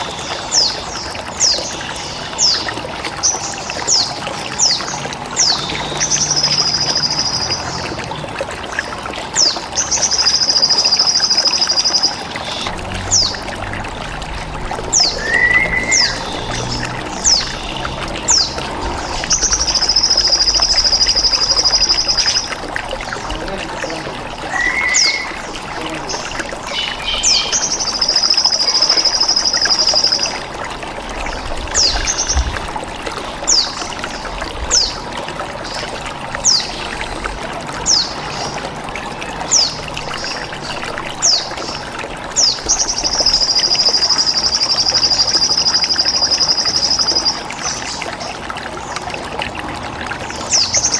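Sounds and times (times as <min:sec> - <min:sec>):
running water trickling: 0:00.0 - 0:50.9.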